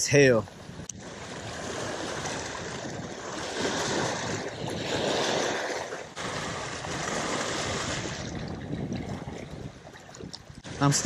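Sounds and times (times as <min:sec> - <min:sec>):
wind on microphone: 0:00.4 - 0:11.0
waves lapping on rocky shore: 0:00.6 - 0:11.0.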